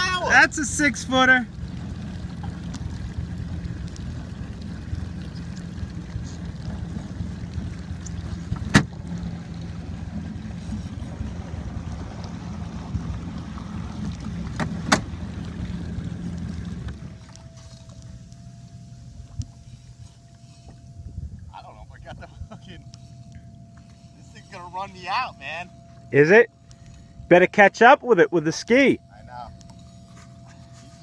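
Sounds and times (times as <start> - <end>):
jet ski engine humming: 0.0 - 31.0.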